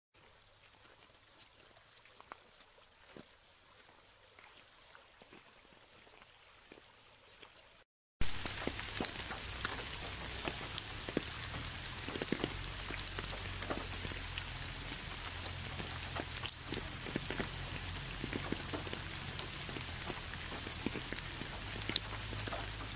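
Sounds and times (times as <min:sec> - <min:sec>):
rain drops ticking on a surface: 0:00.2 - 0:07.6, 0:08.2 - 0:22.9.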